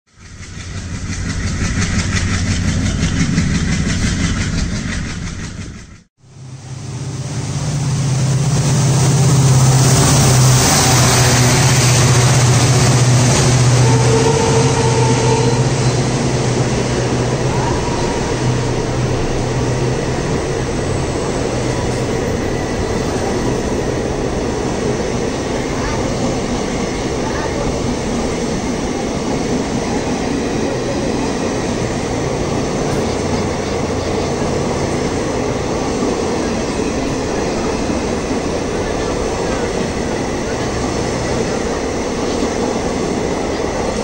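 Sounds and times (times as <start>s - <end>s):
train engine drone: 0.1s - 44.0s
wheels rumbling on rails: 0.1s - 44.0s.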